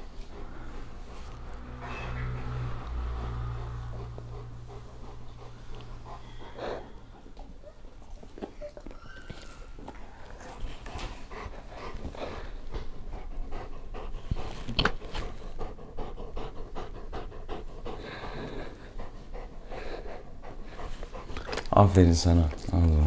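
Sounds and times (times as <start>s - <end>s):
dog panting: 0.0s - 22.8s.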